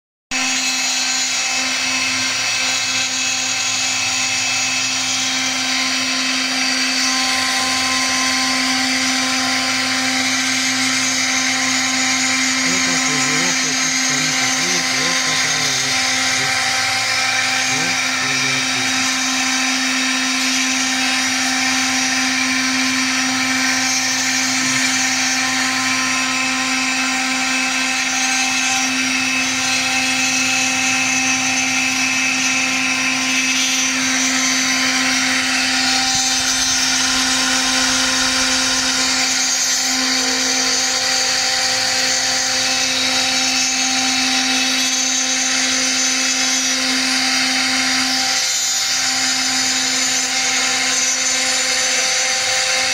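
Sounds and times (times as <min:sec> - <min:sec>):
milling spindle motor whine: 0:00.4 - 0:52.9.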